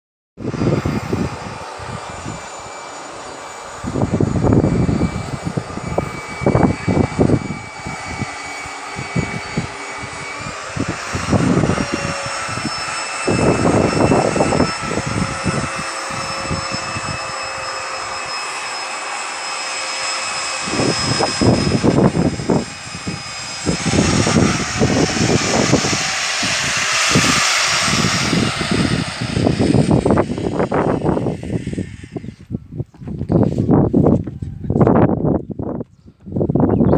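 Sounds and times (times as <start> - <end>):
electric drill motor whine: 0.4 - 36.9
drill bit grinding into wood: 0.5 - 32.5.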